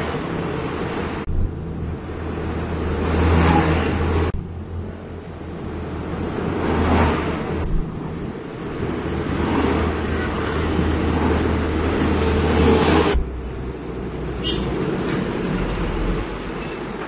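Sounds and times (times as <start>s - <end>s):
bus passing: 0.0s - 17.0s
truck cab engine drone: 0.0s - 17.0s.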